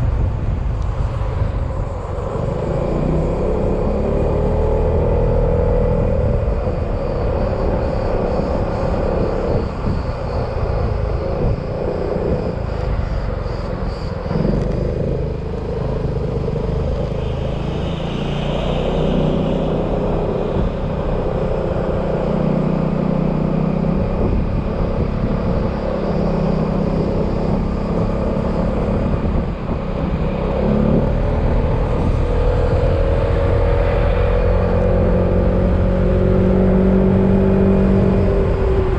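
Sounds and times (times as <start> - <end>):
road and wind rumble: 0.0 - 38.9.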